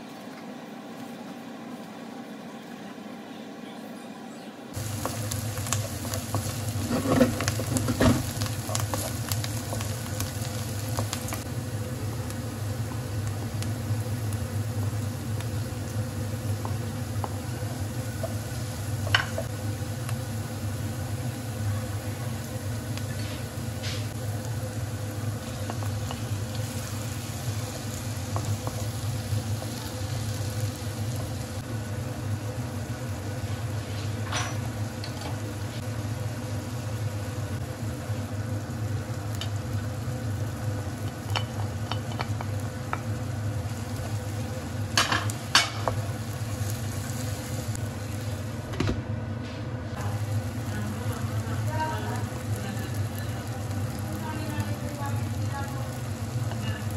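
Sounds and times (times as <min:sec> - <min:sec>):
steady low hum: 0:00.0 - 0:56.9
onions and tomatoes sizzling in pan: 0:04.7 - 0:56.9.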